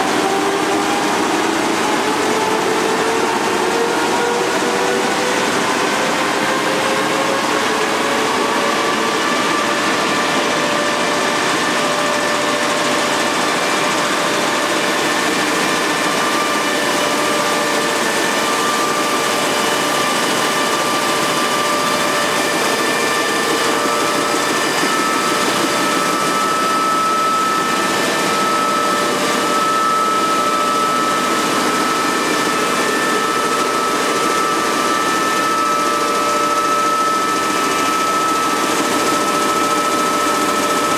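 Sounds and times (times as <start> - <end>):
whining tones: 0.1 - 40.9
printing press whirring: 7.4 - 40.9.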